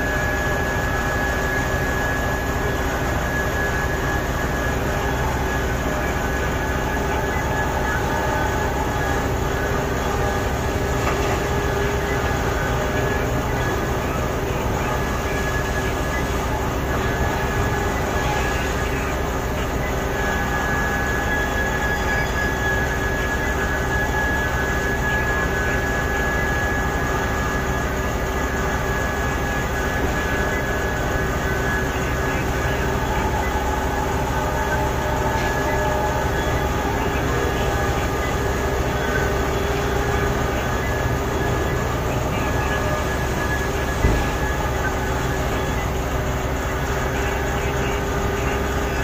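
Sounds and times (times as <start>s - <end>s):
heavy diesel machinery drone: 0.0s - 49.0s
high machine whine: 0.0s - 49.0s.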